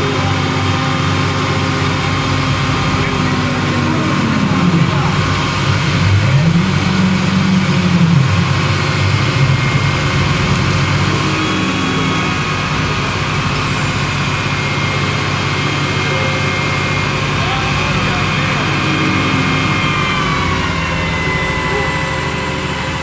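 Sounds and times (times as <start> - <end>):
engine revving and running: 0.0 - 23.0.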